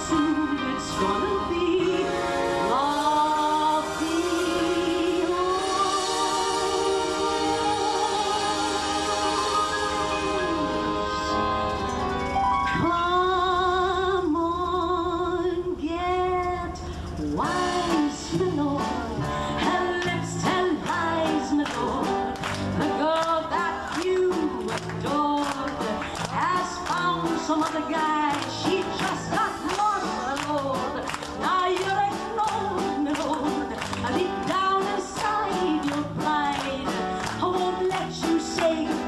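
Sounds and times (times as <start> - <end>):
woman singing into a microphone: 0.0 - 12.1, 12.7 - 39.0
small band playing: 0.0 - 13.9, 17.3 - 39.0.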